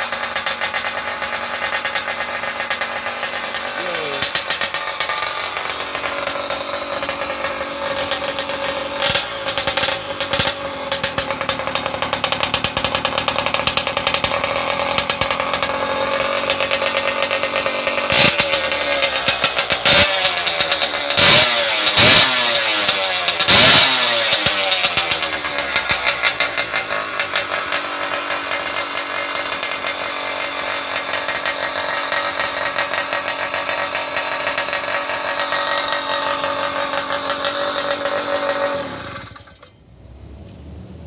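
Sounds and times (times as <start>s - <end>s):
two-stroke engine revving: 0.0s - 41.0s.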